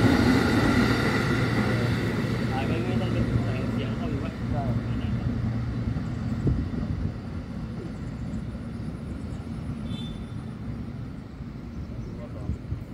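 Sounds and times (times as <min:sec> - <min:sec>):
distant electric train rumble: 0:00.0 - 0:12.9.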